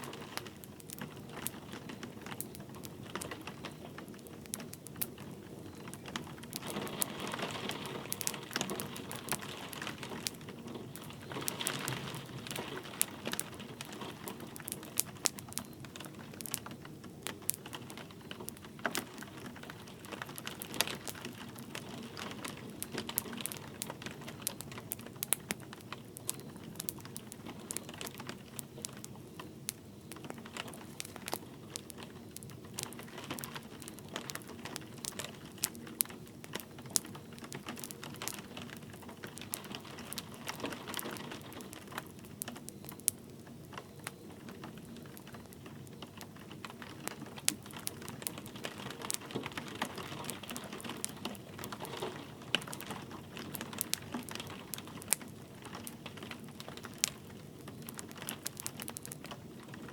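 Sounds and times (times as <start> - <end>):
light rain pattering: 0.0 - 59.9
wood fire crackling and popping: 0.0 - 59.9.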